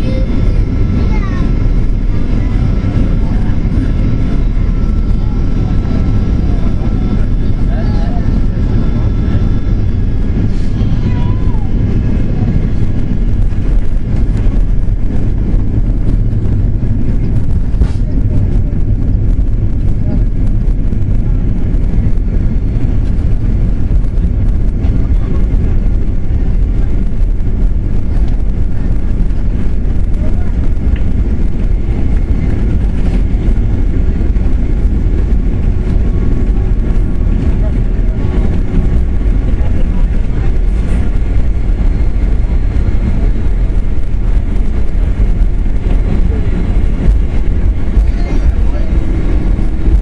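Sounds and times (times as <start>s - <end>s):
airliner cabin jet rumble: 0.0s - 50.0s.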